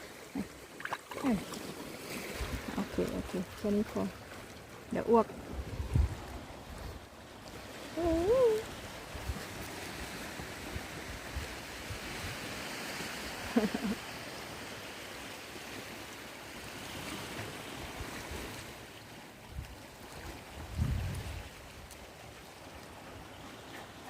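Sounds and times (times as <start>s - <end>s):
sea surf washing: 0.0s - 24.0s.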